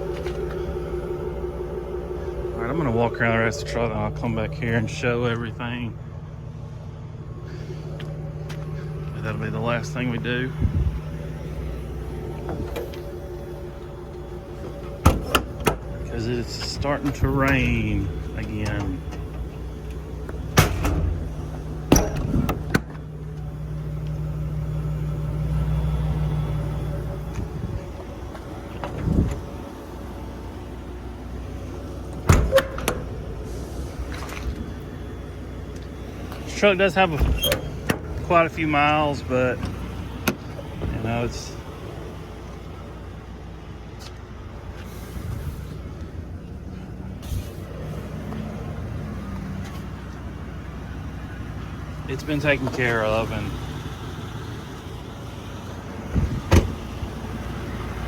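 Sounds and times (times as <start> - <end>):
vehicle engine hum: 0.0 - 58.0.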